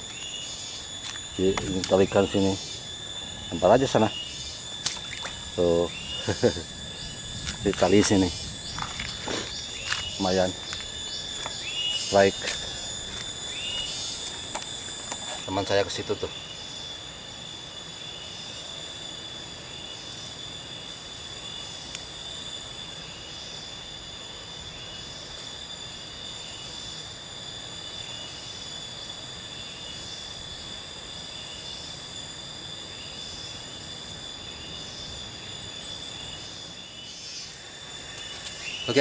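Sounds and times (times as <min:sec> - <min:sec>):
cicadas droning: 0:00.0 - 0:39.0
soft insect call: 0:00.0 - 0:39.0.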